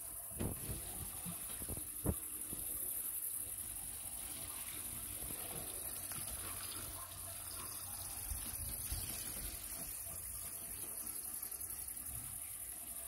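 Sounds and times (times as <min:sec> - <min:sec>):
water running and trickling: 0:00.0 - 0:13.0.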